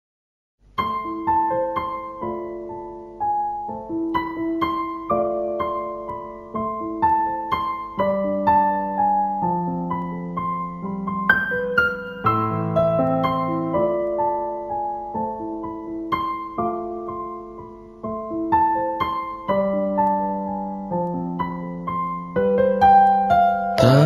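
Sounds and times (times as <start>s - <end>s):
slow piano music: 0.6s - 24.0s.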